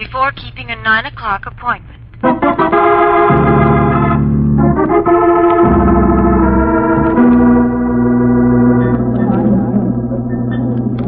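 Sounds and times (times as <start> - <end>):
held organ chords: 2.0 - 11.0.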